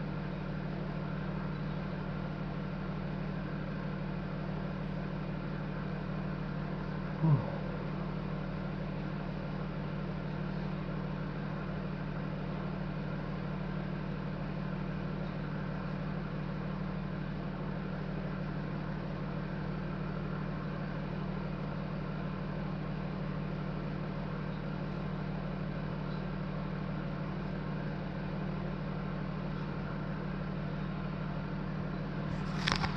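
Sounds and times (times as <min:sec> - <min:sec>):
vehicle engine idling: 0:00.0 - 0:32.9.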